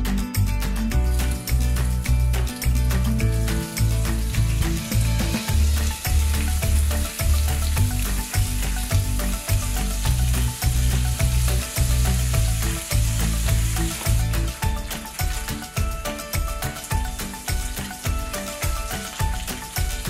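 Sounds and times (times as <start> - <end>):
background music: 0.0 - 20.0
fish sizzling on a grill pan: 1.1 - 20.0.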